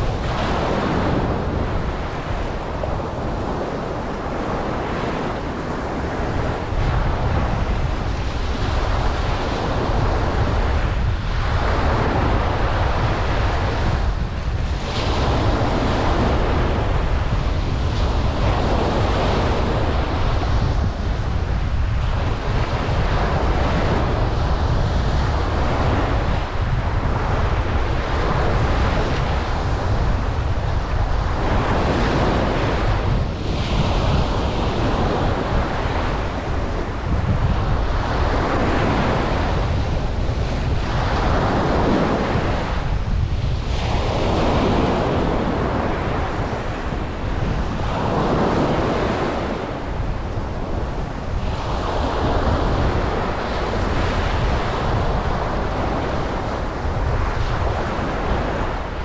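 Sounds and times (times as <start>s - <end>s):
ocean waves breaking on beach: 0.0s - 59.0s
wind rumbling on microphone: 0.0s - 59.0s.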